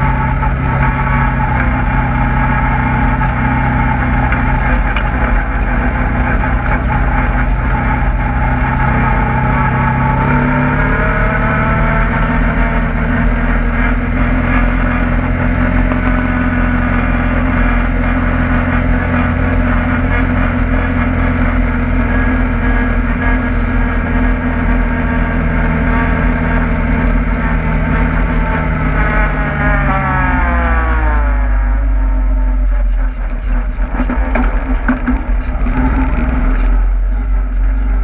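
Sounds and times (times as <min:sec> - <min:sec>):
off-road vehicle engine: 0:00.0 - 0:38.0.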